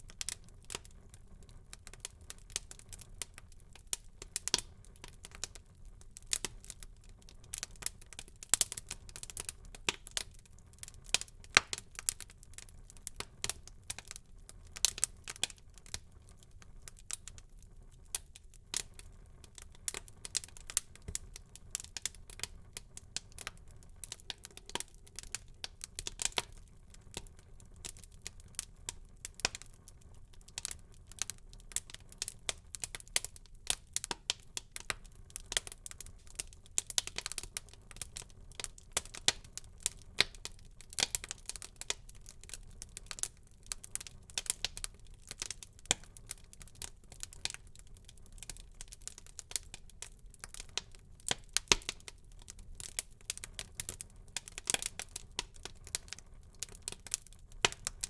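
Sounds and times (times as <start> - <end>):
faint low fire hiss: 0.0 - 58.0
wood fire crackling: 0.0 - 58.0.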